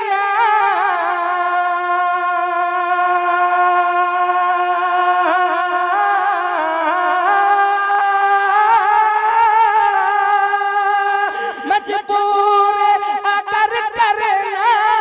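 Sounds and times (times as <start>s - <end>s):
man singing a long note: 0.0s - 15.0s.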